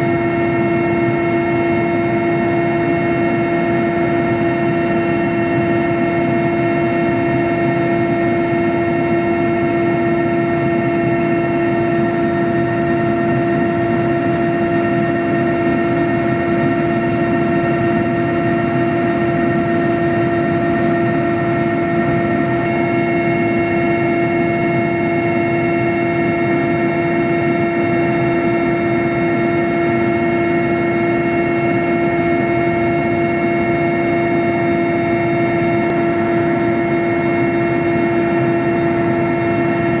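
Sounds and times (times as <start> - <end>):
aircraft in flight humming: 0.0 - 40.0.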